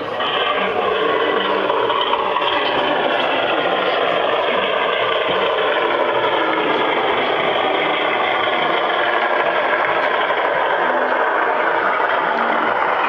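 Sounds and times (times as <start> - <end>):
model locomotive humming and whirring: 0.0 - 13.0.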